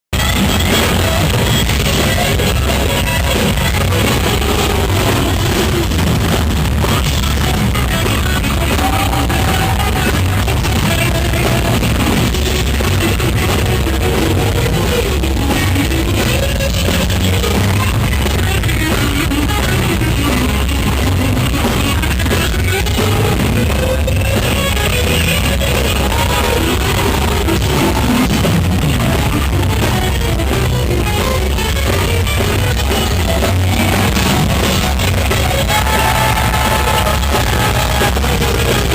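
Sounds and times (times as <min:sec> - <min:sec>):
rock band playing live: 0:00.1 - 0:38.9
electric guitar solo: 0:00.2 - 0:38.9.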